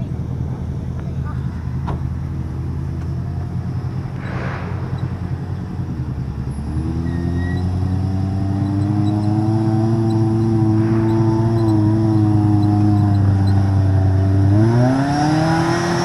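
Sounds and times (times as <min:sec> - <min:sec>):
utv engine rumbling: 0:00.0 - 0:16.0.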